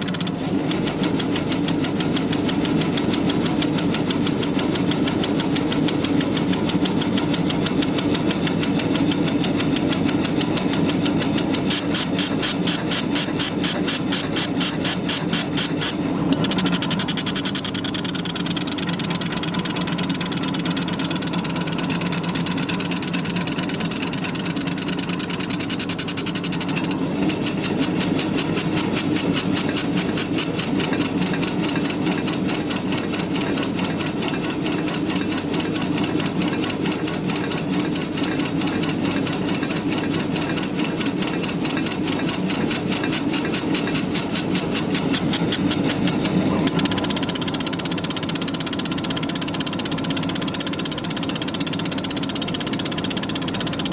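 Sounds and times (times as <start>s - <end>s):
fast back-and-forth rattle: 0.0s - 53.9s.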